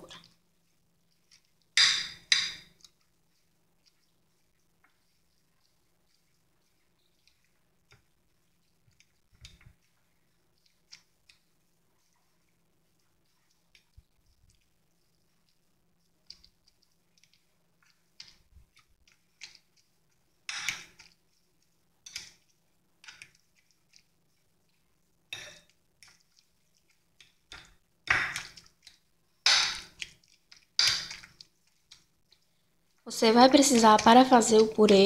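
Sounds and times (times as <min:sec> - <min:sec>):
soft squishing: 0:00.0 - 0:35.0.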